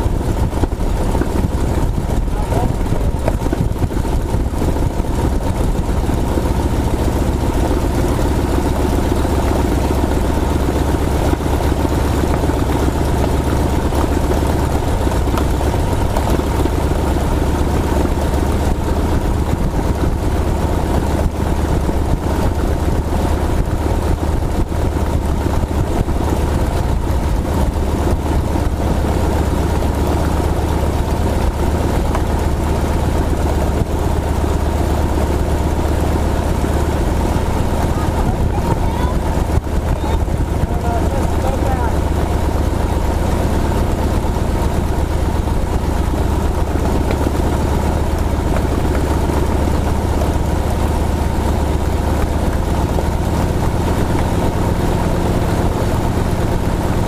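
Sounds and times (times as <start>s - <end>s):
airplane piston engine rumbling: 0.0s - 57.0s.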